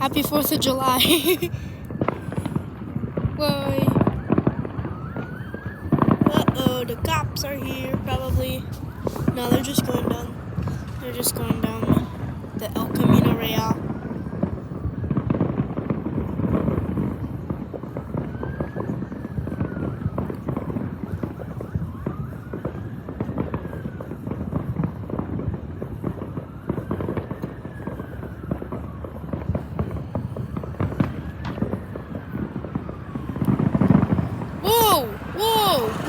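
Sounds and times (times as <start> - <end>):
fireworks crackling and popping: 0.0 - 36.0
police siren wailing: 0.0 - 36.0.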